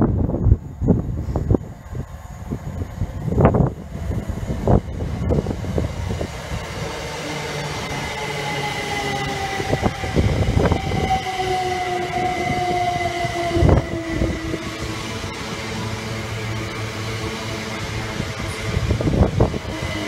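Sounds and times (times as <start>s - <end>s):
train wheels rumbling: 0.0s - 20.0s
train whining tones: 2.8s - 20.0s.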